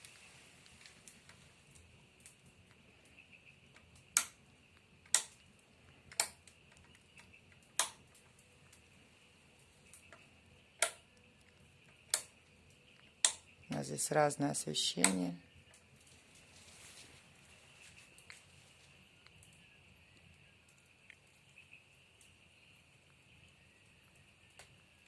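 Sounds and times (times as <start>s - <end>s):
fire crackling: 0.0s - 25.0s
fire popping: 0.0s - 25.0s.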